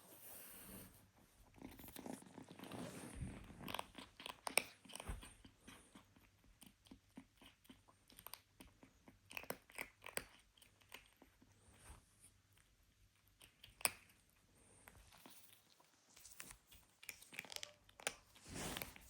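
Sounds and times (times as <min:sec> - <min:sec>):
kitten crunching food: 0:01.4 - 0:19.0.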